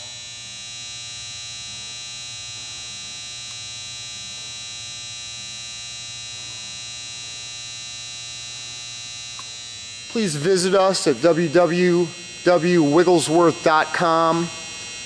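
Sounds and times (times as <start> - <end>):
hydraulic power unit humming and whining: 0.0 - 15.0.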